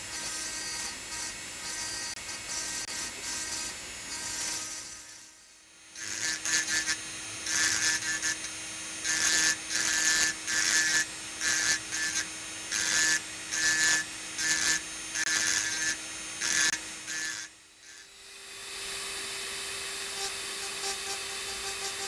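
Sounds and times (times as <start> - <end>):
drill burr grinding crystal: 0.0 - 22.0
drill motor hum: 0.0 - 22.0.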